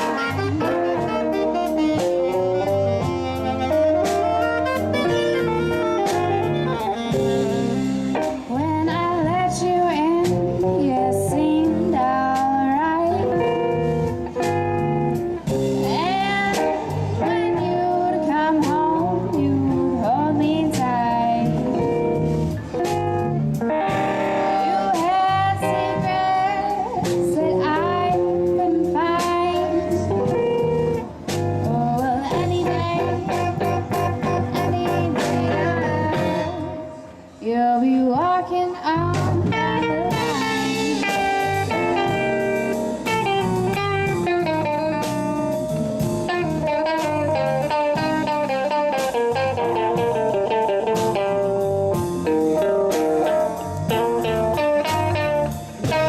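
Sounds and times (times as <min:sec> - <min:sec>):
live blues-rock band: 0:00.0 - 0:56.0
melodic guitar lead line: 0:00.0 - 0:56.0.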